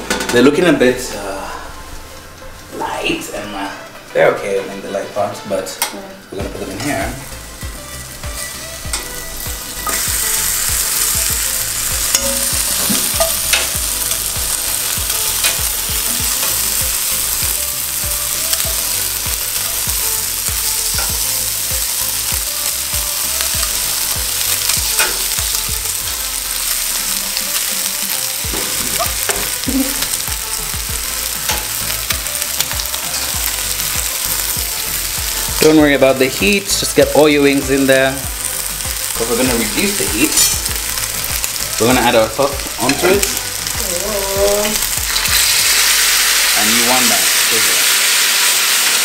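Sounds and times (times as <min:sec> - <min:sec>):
chicken wings sizzling in pan: 0:04.6 - 0:49.0.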